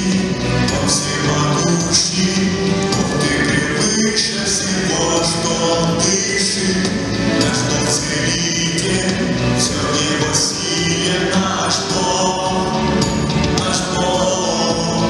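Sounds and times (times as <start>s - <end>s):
band playing worship music: 0.0s - 15.0s
man singing into microphone: 0.0s - 15.0s.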